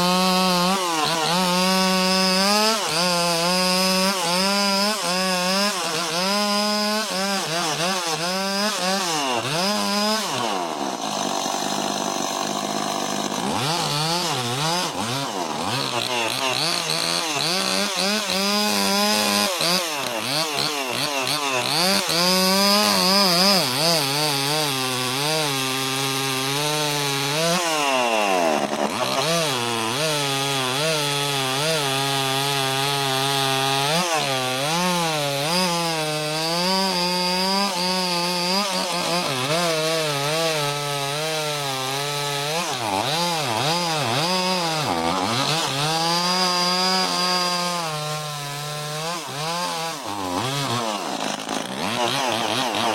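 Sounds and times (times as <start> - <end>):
chainsaw cutting tree trunk: 0.0 - 52.9.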